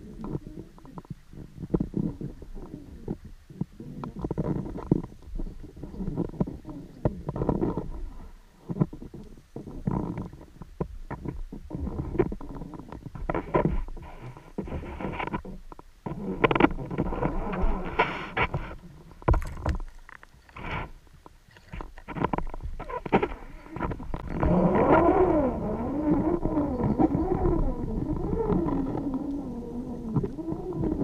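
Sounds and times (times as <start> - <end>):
underwater rumbling water noise: 0.0 - 31.0
underwater knocks and bumps: 0.1 - 31.0.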